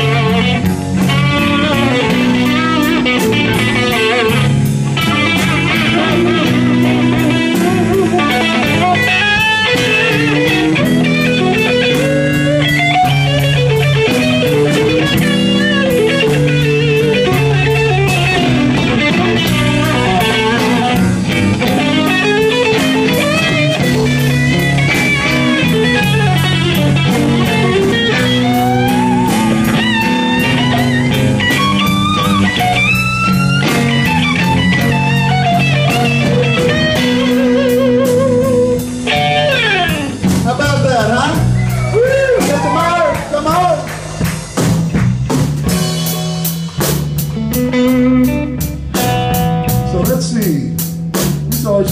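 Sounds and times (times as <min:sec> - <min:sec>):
drums: 0:00.0 - 0:51.9
electric guitar lead lines: 0:00.0 - 0:51.9
low accompaniment: 0:00.0 - 0:51.9.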